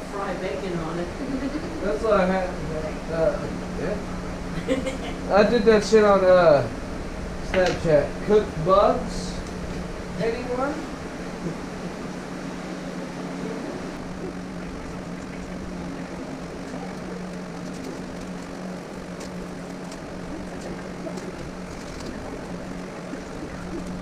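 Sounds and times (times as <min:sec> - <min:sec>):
mechanical drone with low hum: 0:00.0 - 0:24.0.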